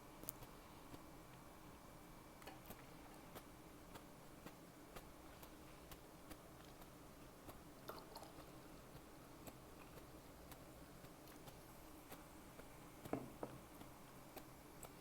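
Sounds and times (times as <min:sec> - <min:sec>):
wet chewing mouth clicks: 0:02.4 - 0:15.0.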